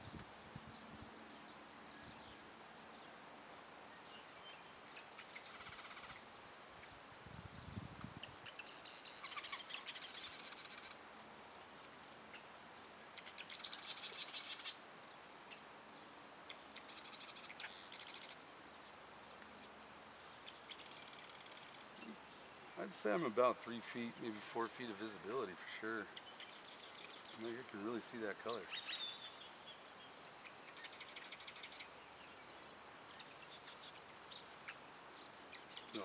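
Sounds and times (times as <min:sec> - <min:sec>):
songbirds trilling: 0:00.0 - 0:36.0.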